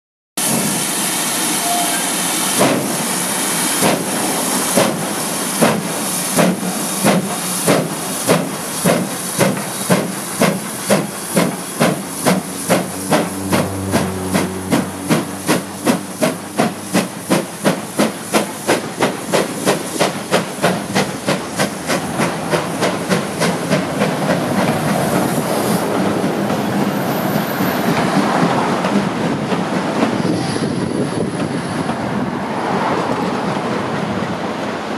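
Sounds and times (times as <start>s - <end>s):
steam hiss: 0.4s - 33.7s
steam locomotive exhaust beats: 0.4s - 34.9s
train coaches rumbling and clattering: 0.4s - 34.9s.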